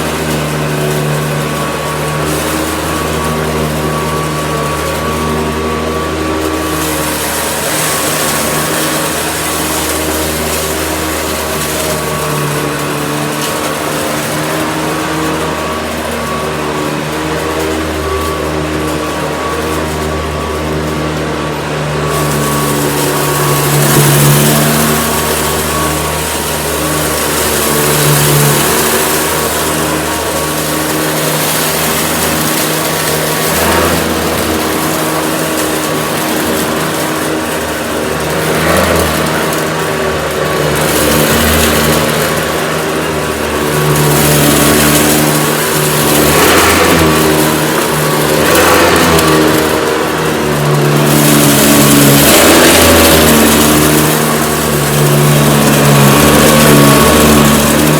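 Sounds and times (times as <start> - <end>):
vacuum cleaner running: 0.0 - 57.9.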